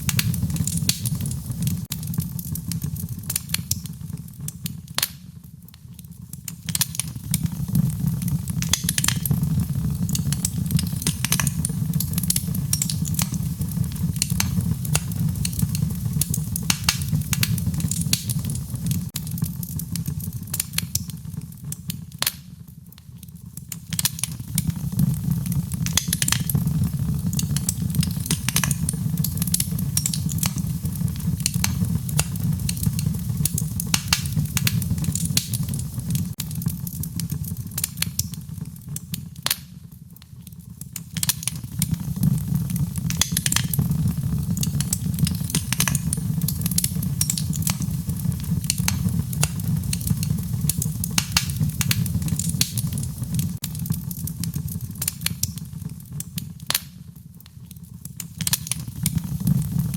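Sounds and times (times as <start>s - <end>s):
fire low rumble: 0.0s - 59.9s
wood fire pops and snaps: 0.0s - 59.9s.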